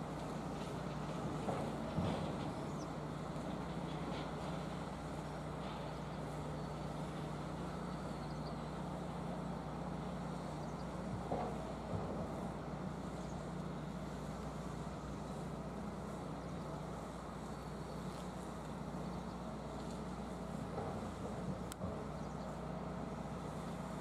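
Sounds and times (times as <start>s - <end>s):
diesel engine hum: 0.0s - 24.0s.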